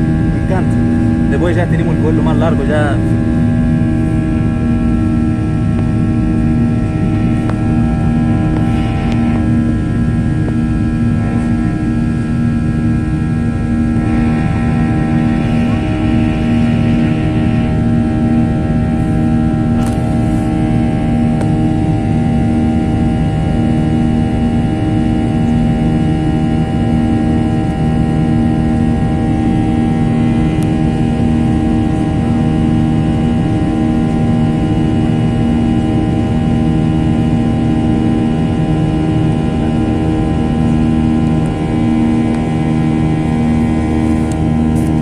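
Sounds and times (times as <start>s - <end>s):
jet engines in cabin: 0.0s - 45.0s.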